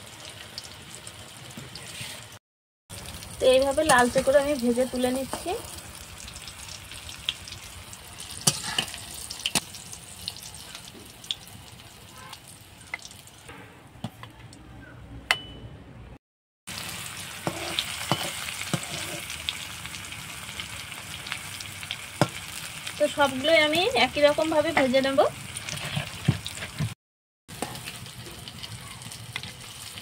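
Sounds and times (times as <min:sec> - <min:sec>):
oil sizzling: 0:00.0 - 0:13.5, 0:16.7 - 0:30.0.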